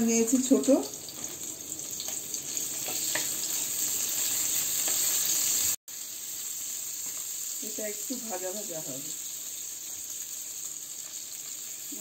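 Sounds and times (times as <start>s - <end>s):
onion sizzling in a frying pan: 0.0s - 12.0s.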